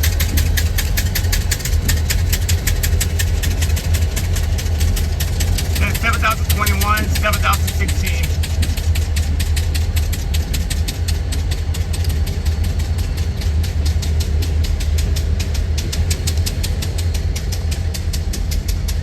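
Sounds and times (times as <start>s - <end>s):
fast even ticking: 0.0s - 18.4s
low engine rumble: 0.0s - 19.0s.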